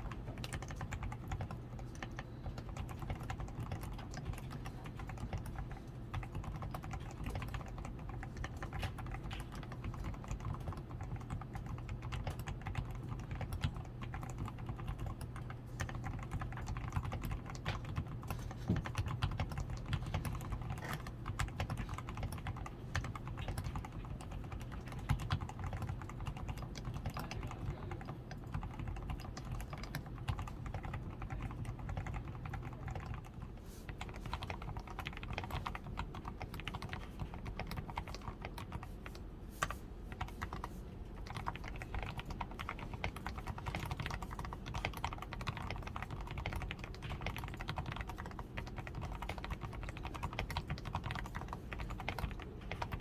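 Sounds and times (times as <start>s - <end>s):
mechanical keyboard typing: 0.0s - 53.0s.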